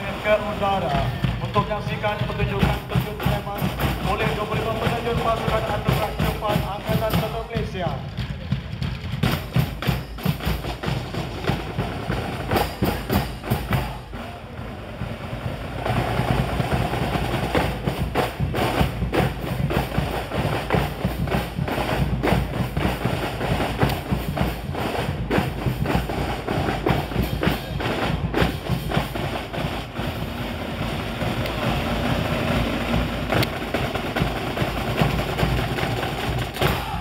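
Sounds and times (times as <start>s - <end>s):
snare and bass drums: 0.0s - 37.0s.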